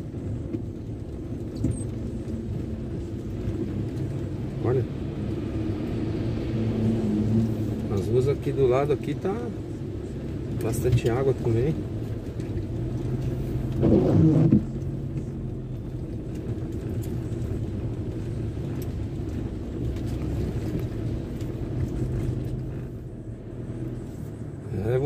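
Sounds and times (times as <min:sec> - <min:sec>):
car engine running: 0:00.0 - 0:25.0
tyres on wet road: 0:00.0 - 0:25.0.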